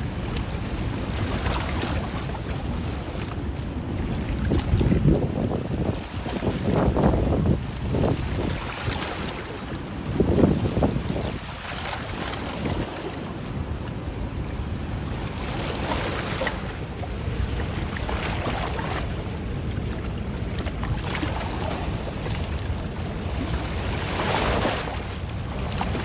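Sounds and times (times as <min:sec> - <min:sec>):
moving water splashing: 0:00.0 - 0:26.0
wind rumbling on microphone: 0:00.0 - 0:26.0.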